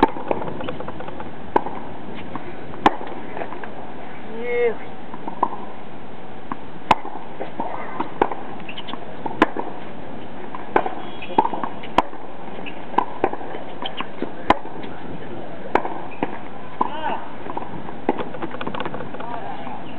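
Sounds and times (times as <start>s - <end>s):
tennis racket hitting ball: 0.0s - 3.7s, 5.2s - 5.7s, 6.5s - 15.0s, 15.7s - 19.0s.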